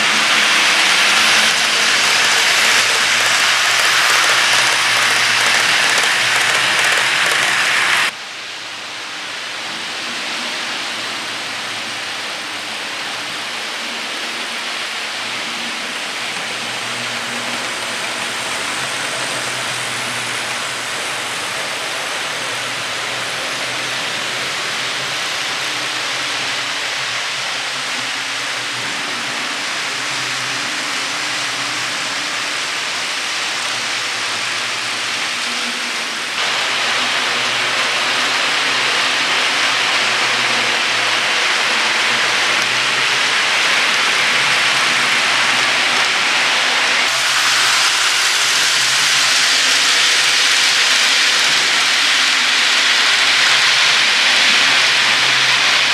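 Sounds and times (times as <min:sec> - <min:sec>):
model train wheels rattling on rails: 0:00.0 - 0:08.2, 0:14.9 - 0:55.9.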